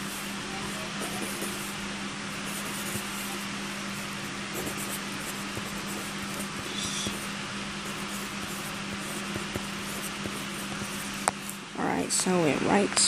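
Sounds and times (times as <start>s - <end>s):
pencil scratching on paper: 0.0s - 11.6s.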